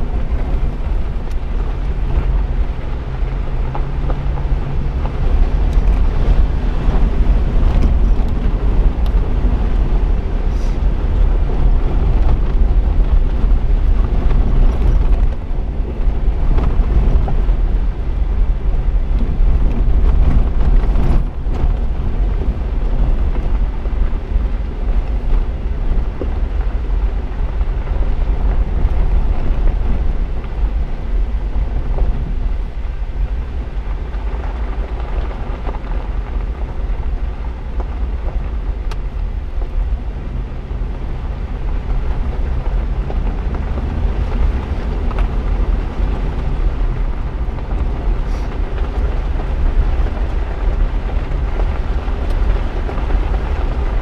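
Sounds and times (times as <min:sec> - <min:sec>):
vehicle driving on gravel: 0:00.0 - 0:54.0
wind buffeting microphone: 0:00.0 - 0:54.0.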